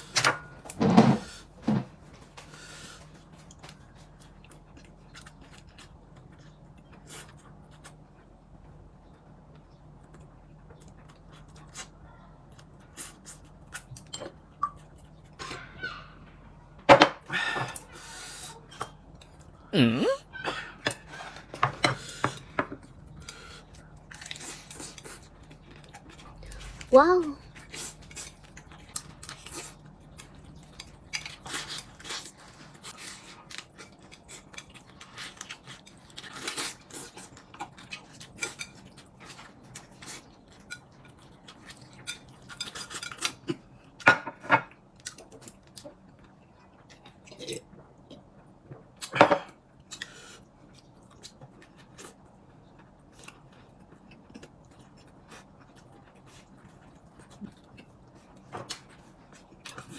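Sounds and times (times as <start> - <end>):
person chewing: 2.4 - 8.9, 9.5 - 15.5, 20.9 - 26.9, 27.5 - 44.0, 44.8 - 59.9.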